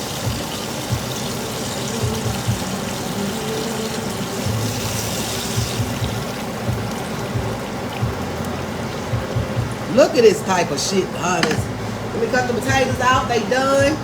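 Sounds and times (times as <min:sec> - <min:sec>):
music with low beat: 0:00.0 - 0:10.0, 0:11.4 - 0:14.0
oil sizzling in a frying pan: 0:00.0 - 0:11.6.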